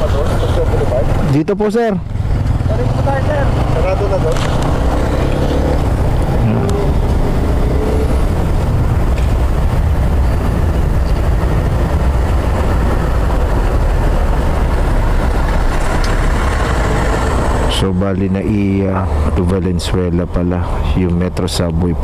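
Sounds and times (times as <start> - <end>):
engine rumble: 0.0 - 22.0.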